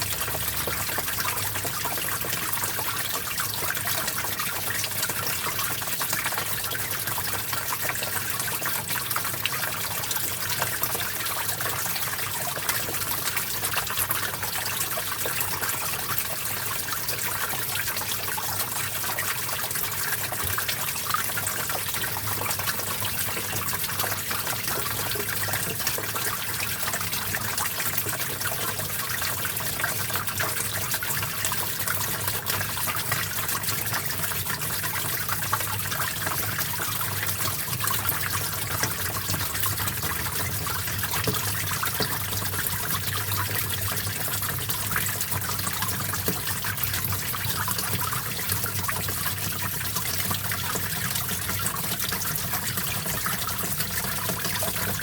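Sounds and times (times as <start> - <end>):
small stream trickling: 0.0 - 55.0.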